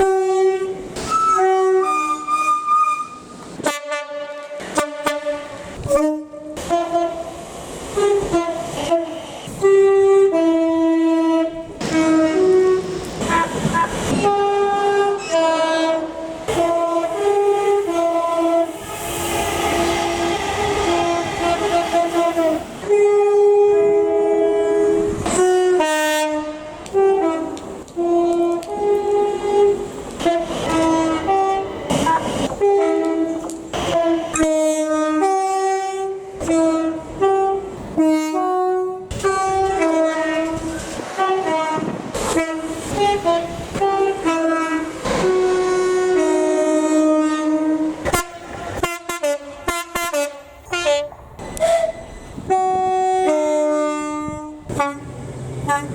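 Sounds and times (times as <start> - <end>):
multi-tone train horn tune: 0.0 - 55.9.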